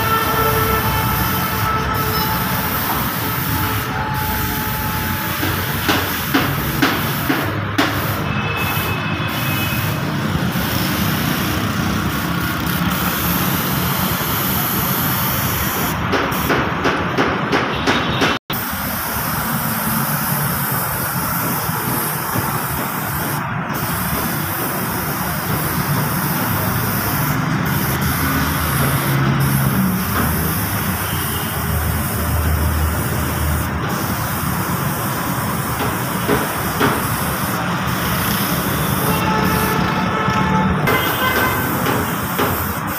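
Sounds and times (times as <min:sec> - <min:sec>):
paint spray gun hissing: 0:00.0 - 0:16.6, 0:18.5 - 0:42.9
loud steady machine noise: 0:00.0 - 0:42.9.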